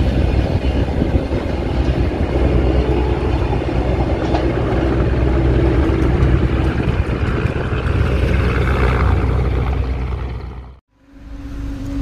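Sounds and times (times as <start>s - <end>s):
passing train rumble: 0.0s - 12.0s.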